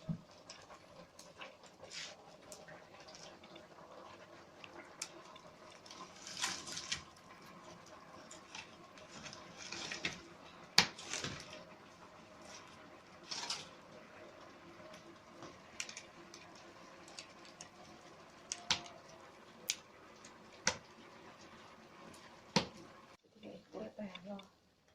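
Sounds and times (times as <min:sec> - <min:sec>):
water splashing and sloshing: 0:00.0 - 0:23.2.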